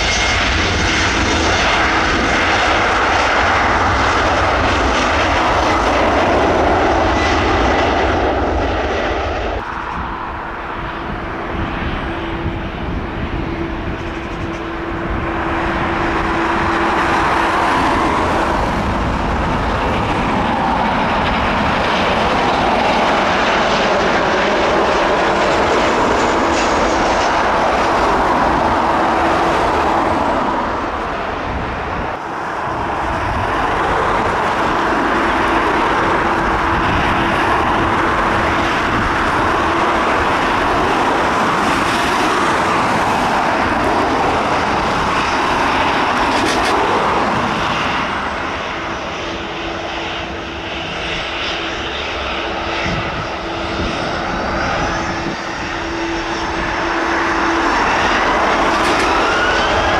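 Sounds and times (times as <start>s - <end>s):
airliner engines roaring: 0.0s - 59.9s.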